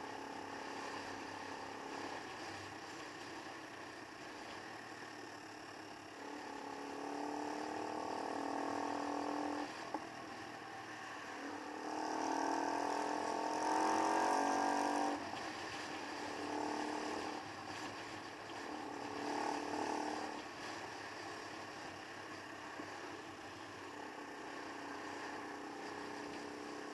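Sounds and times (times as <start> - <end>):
motorcycle engine revving: 0.0 - 26.9
wind and road noise: 0.0 - 26.9.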